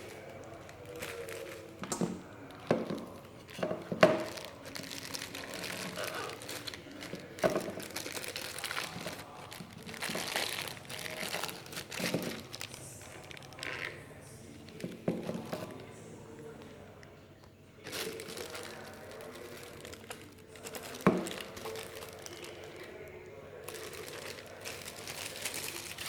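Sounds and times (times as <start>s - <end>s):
plastic packaging crinkling: 0.0s - 15.9s, 17.8s - 26.0s.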